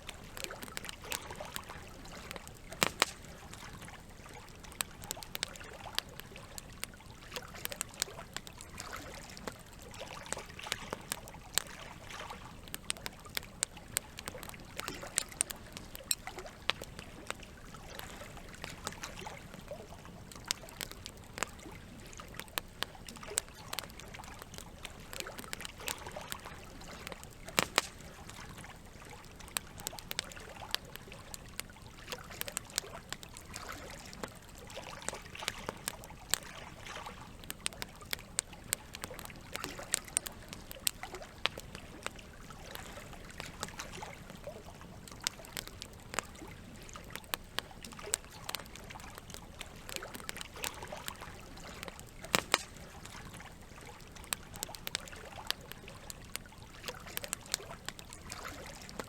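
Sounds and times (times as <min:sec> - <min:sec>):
campfire crackling: 0:00.0 - 0:59.0
running water trickling: 0:00.0 - 0:59.0.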